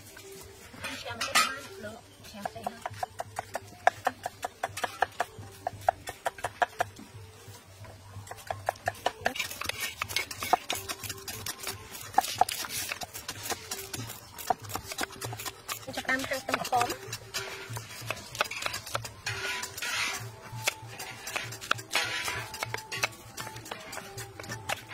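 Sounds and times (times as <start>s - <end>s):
cleavers chopping on wooden block: 2.4s - 7.0s, 8.2s - 24.9s.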